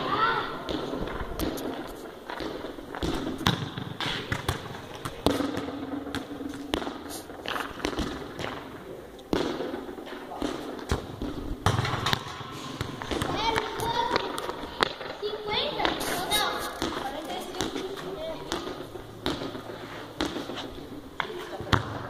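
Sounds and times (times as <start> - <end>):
ball kicked and bouncing on concrete: 0.6 - 22.0.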